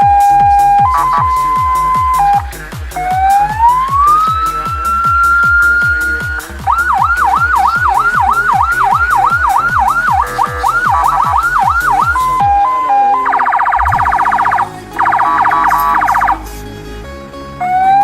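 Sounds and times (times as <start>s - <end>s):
electronic siren: 0.0s - 16.5s
song with thumping beat: 0.0s - 16.5s.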